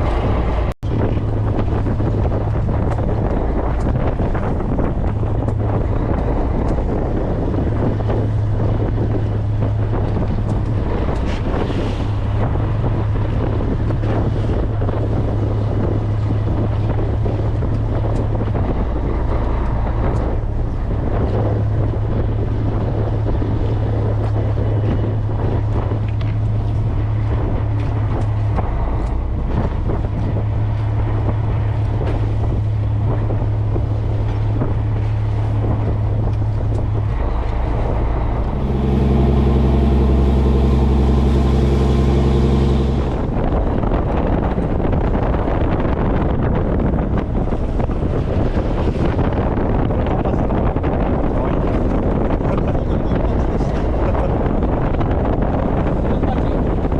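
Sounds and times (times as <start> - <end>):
boat engine droning: 0.0 - 56.9
water rushing against hull: 0.0 - 56.9
wind buffeting microphone: 0.0 - 56.9.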